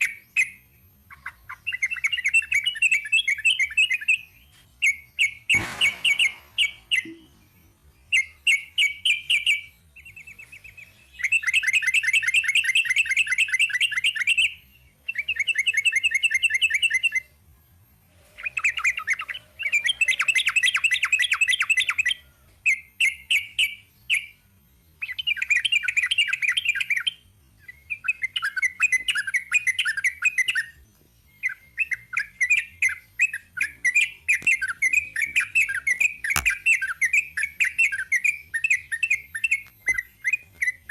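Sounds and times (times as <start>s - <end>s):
bird singing with trills: 0.0s - 40.9s.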